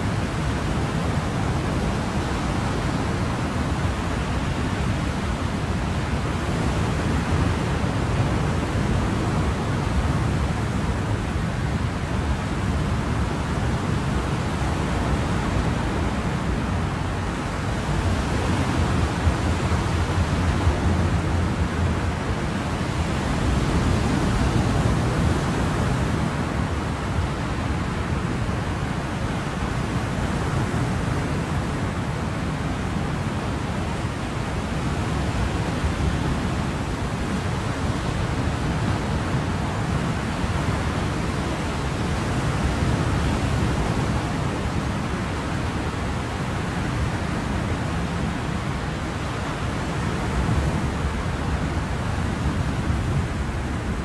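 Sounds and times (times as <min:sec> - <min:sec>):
ocean waves: 0:00.0 - 0:54.0.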